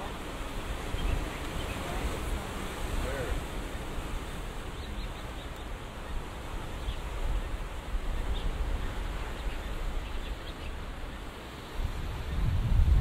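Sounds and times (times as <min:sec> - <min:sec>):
steady outdoor hiss: 0:00.0 - 0:13.0
wind buffeting microphone: 0:00.0 - 0:13.0.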